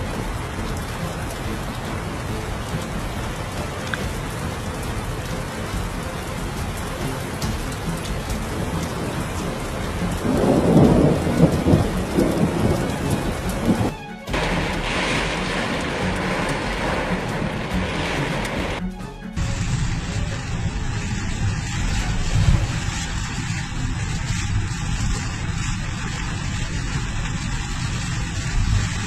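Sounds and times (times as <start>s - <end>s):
heavy rain: 0.0s - 29.0s
thunder rumbling: 0.0s - 29.0s.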